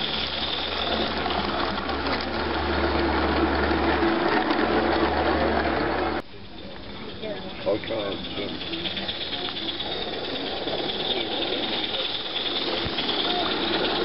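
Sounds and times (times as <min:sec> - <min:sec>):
model train wheels clattering on track: 0:00.0 - 0:14.0.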